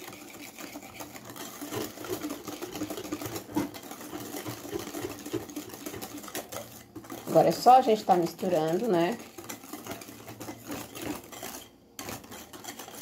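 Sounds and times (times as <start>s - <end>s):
whisk beating batter in glass bowl: 0.0s - 13.0s.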